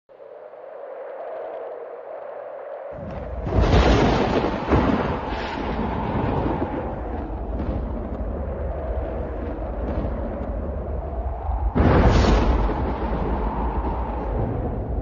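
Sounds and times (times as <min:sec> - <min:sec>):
thunder clap and rumble: 0:03.0 - 0:15.0.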